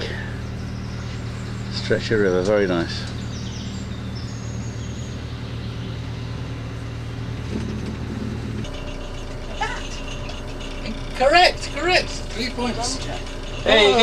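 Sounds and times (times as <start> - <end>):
boat engine running: 0.0 - 14.0
quieter steady hum: 0.0 - 14.0.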